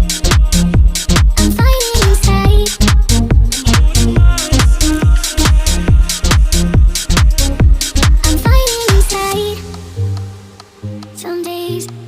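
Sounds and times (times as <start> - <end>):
music with kick-drum beat: 0.0 - 10.8.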